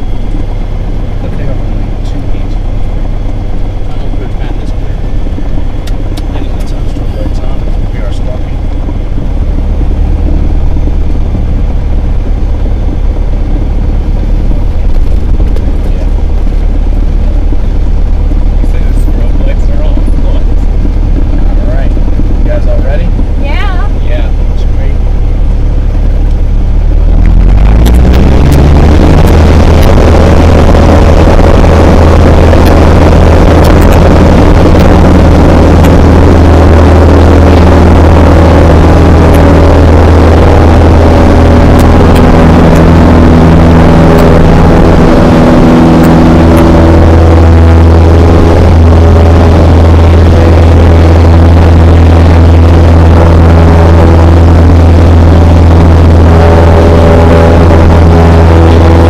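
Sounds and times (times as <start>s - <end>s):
aircraft engine and propeller: 0.0s - 59.0s.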